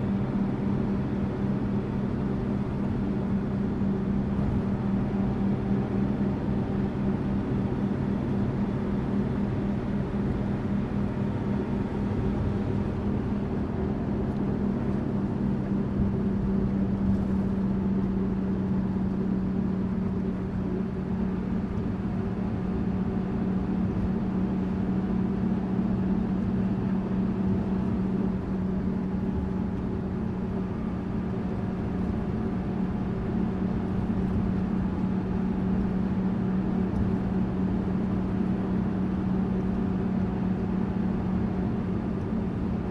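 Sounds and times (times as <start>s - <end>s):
bus engine drone: 0.0s - 42.9s
road noise: 0.0s - 42.9s.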